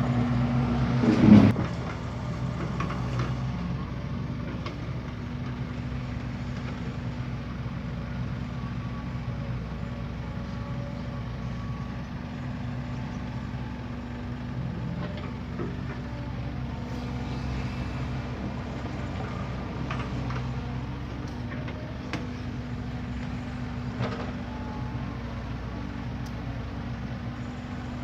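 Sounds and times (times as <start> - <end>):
heavy machinery diesel engine running: 0.0 - 28.0.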